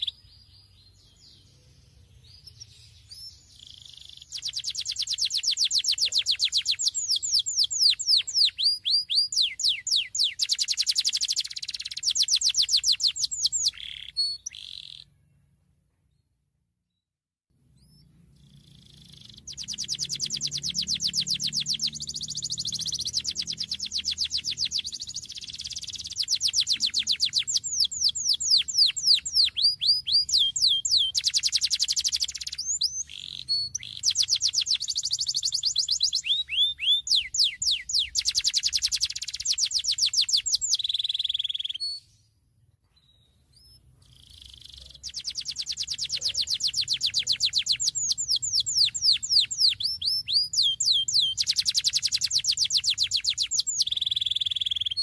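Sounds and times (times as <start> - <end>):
canary singing rapid trills: 0.0 - 15.2, 17.7 - 42.1, 43.6 - 55.0.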